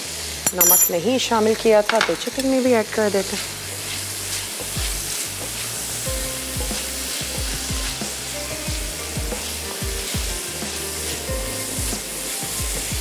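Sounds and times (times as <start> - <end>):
chicken sizzling in oil: 1.1 - 13.0.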